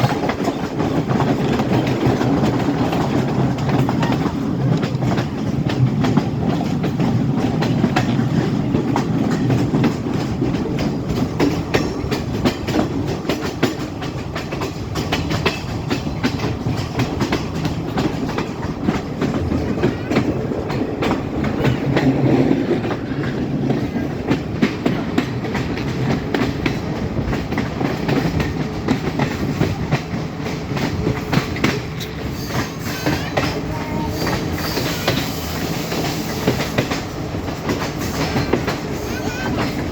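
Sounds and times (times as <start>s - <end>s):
train rumble and hum: 0.0s - 39.9s
wheels clicking over rails: 0.0s - 39.9s.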